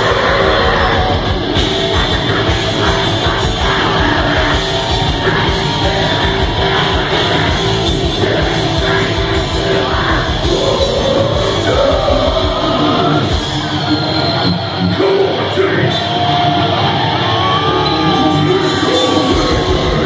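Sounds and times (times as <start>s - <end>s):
vocalist singing: 0.0s - 14.4s, 17.6s - 20.0s
heavy metal band playing: 0.0s - 20.0s.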